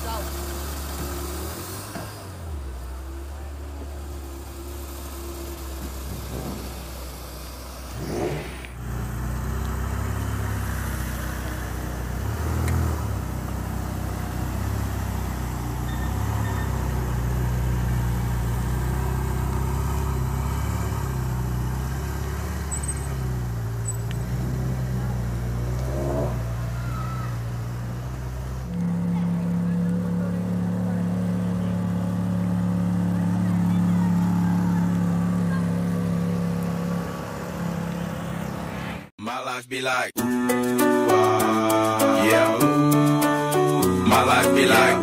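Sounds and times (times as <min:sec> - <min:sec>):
sports car engines idling: 0:00.0 - 0:38.7.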